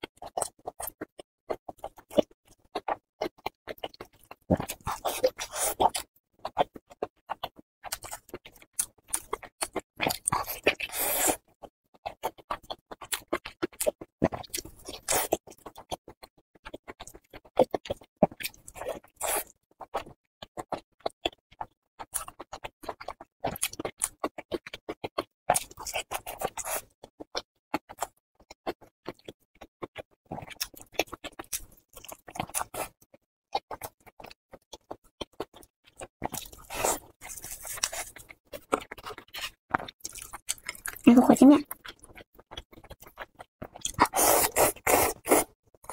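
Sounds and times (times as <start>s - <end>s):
chewing: 0.2s - 45.9s.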